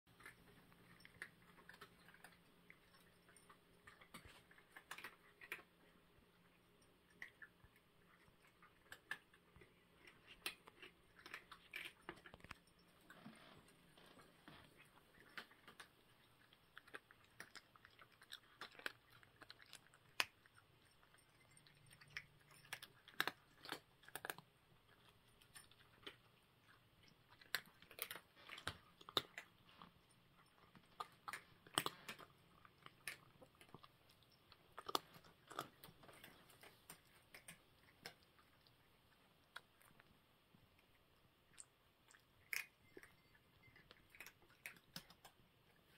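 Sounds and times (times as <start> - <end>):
cats crunching dry kibble: 0.1 - 45.9.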